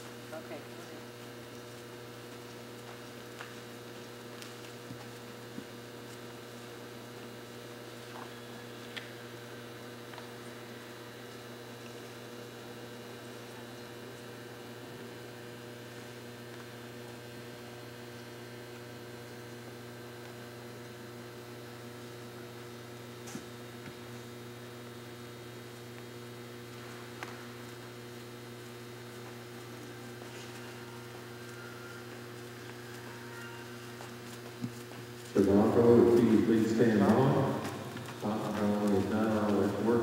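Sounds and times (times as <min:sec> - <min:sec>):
low electrical mains hum: 0:00.0 - 0:40.0.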